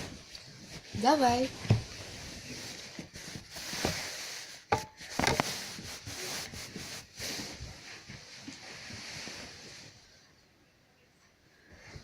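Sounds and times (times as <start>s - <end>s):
rubbing and rustling: 0.0s - 10.2s.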